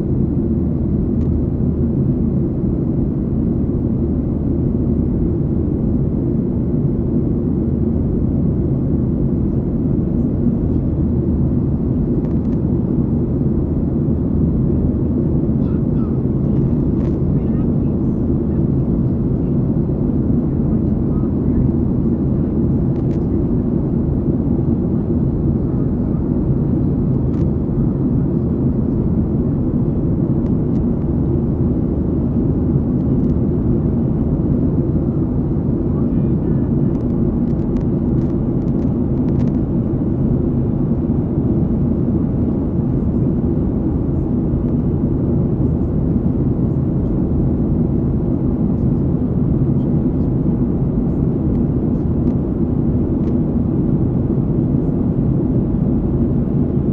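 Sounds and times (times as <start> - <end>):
jet cabin roar in flight: 0.0 - 56.9.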